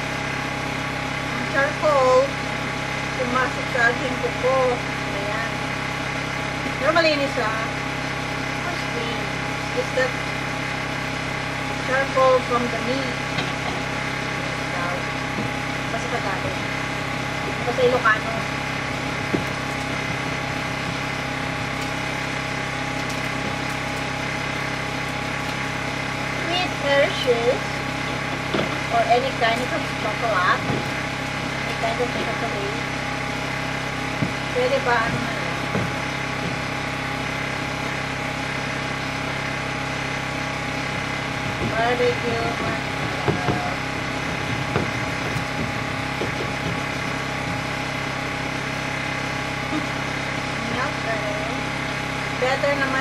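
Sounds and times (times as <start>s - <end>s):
engine idling: 0.0s - 53.0s
motor humming: 0.0s - 53.0s.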